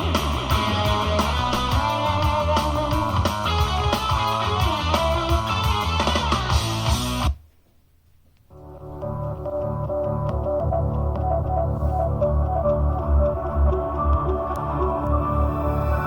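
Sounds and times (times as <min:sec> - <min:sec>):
rock music through speaker: 0:00.0 - 0:07.4, 0:08.6 - 0:16.0.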